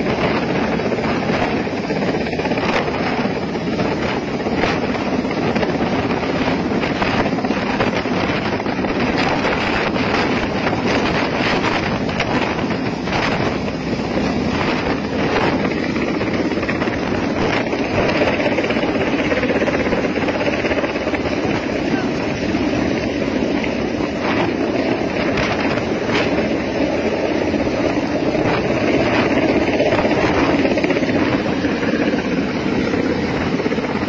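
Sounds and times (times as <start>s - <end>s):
helicopter rotor and turbine noise: 0.0s - 34.0s
wind buffeting microphone: 0.0s - 34.0s.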